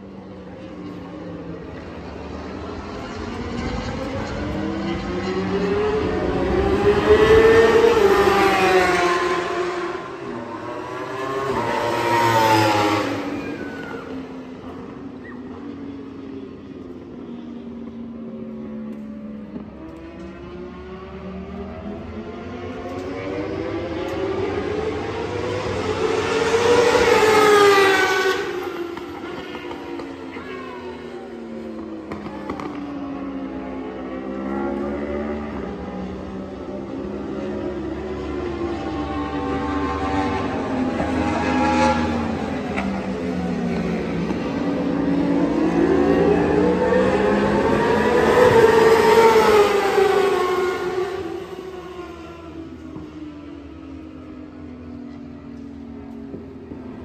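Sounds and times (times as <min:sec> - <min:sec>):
motorbike passing at full throttle: 0:00.0 - 0:57.0.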